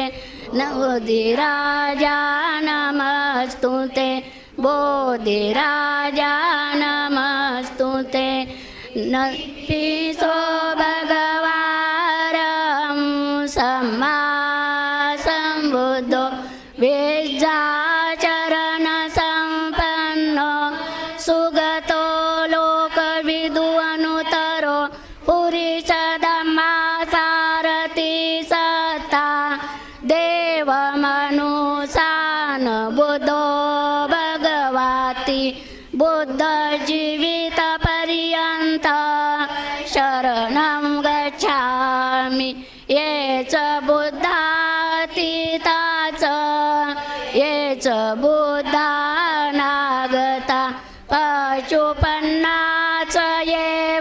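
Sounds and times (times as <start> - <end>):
women chanting in unison: 0.0 - 54.0.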